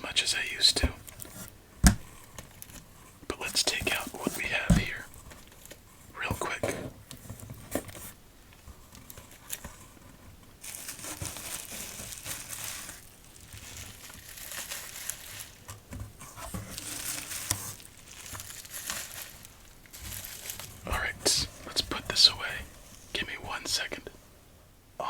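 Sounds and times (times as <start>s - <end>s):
packaging rustling and crumpling: 0.2s - 23.9s.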